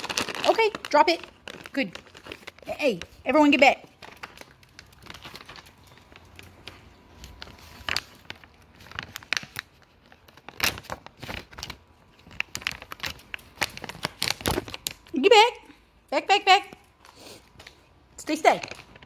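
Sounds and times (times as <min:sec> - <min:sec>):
plastic packaging crinkling: 0:00.0 - 0:15.2, 0:16.8 - 0:19.0.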